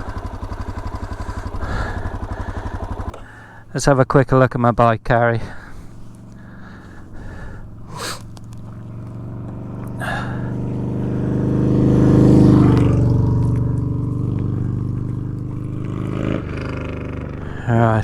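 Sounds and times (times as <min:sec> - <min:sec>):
vehicle engine passing: 0:00.0 - 0:03.6, 0:05.5 - 0:18.0.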